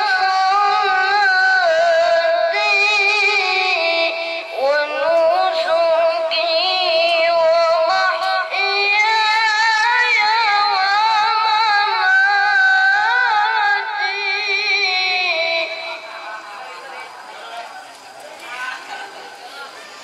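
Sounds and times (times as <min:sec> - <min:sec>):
child chanting recitation: 0:00.0 - 0:17.5.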